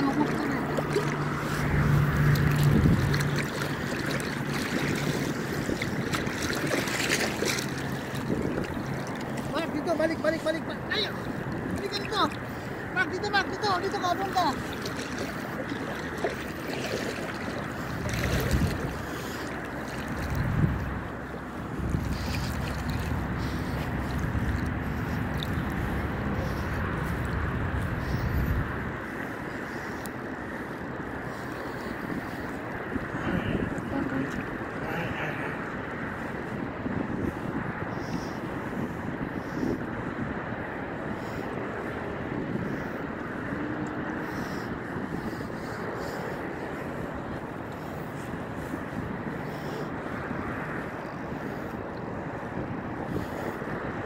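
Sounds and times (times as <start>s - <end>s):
small waves lapping: 0.0s - 54.0s
wind buffeting microphone: 0.0s - 54.0s.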